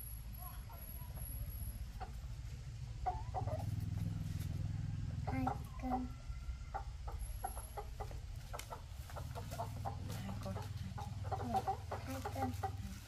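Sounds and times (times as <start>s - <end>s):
chicken clucking: 0.3s - 13.0s.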